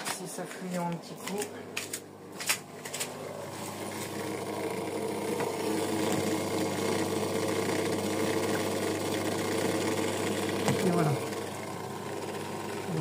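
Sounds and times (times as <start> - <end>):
drain pump humming: 1.1 - 13.0.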